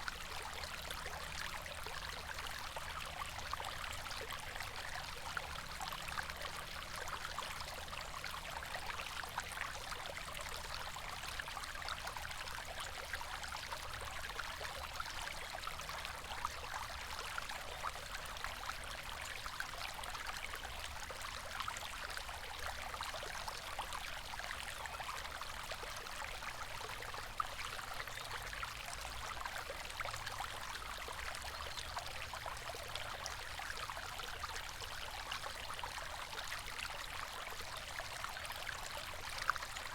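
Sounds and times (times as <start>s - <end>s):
water splashes and trickles: 0.0s - 39.9s.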